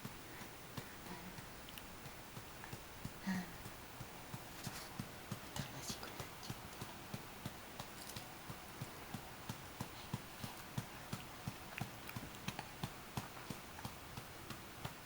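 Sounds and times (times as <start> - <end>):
soft rhythmic thumps: 0.0 - 15.0.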